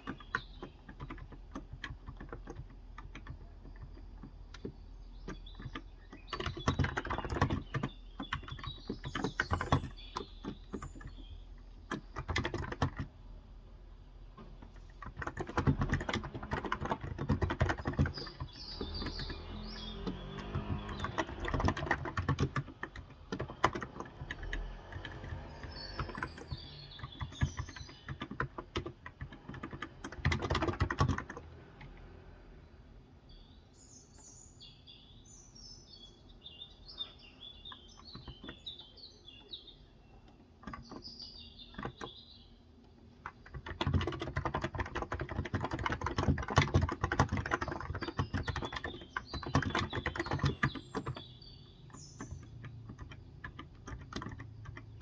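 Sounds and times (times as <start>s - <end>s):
keyboard typing: 0.0s - 13.4s, 14.2s - 32.0s, 37.7s - 42.2s, 42.8s - 55.0s
small birds chirping: 0.0s - 55.0s.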